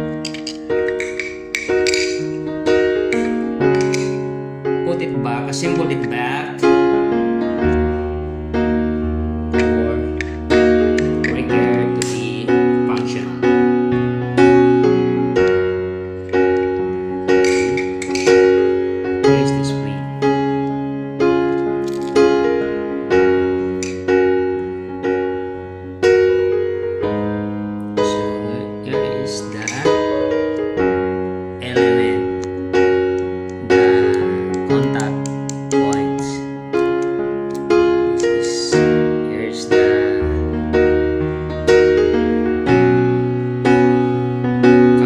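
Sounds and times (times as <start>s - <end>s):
piano chords: 0.0s - 45.0s.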